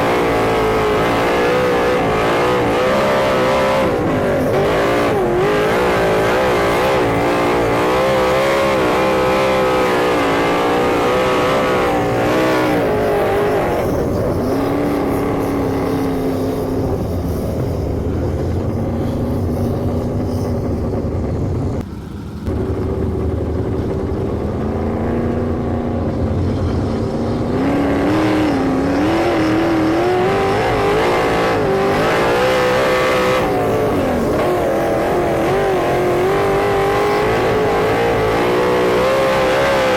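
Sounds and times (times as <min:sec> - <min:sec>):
race car engines running hard: 0:00.0 - 0:39.9.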